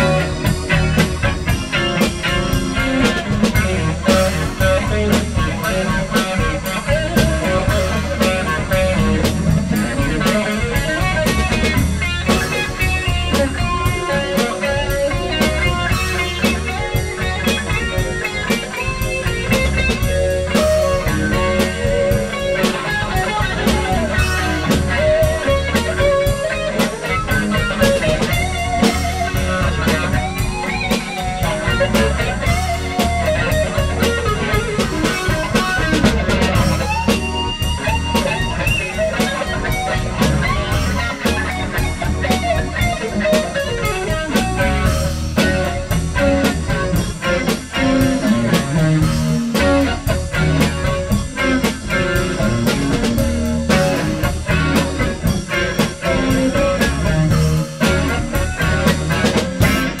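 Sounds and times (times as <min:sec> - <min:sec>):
drum kit beat: 0:00.0 - 1:00.0
electric guitar: 0:00.0 - 1:00.0.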